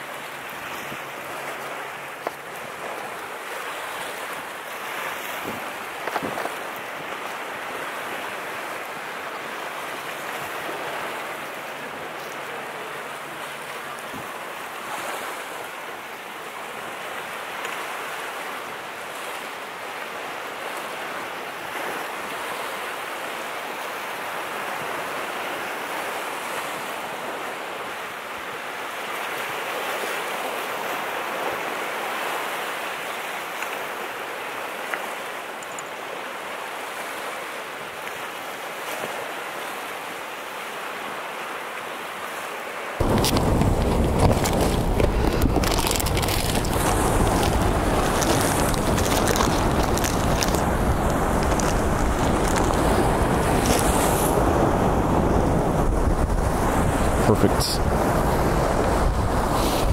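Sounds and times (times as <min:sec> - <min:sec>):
ocean surf washing onto beach: 0:00.0 - 0:59.9
wind: 0:00.0 - 0:59.9.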